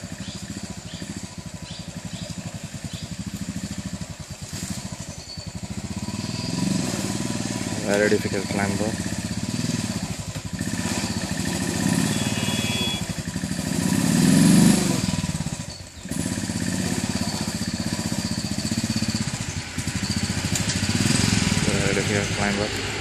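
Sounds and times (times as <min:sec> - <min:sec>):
motorcycle engine labouring: 0:00.0 - 0:23.0.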